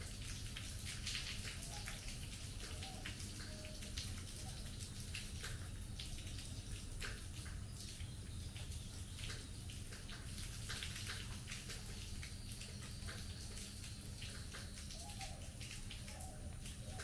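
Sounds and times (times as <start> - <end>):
water drips and splatters: 0.0 - 17.0.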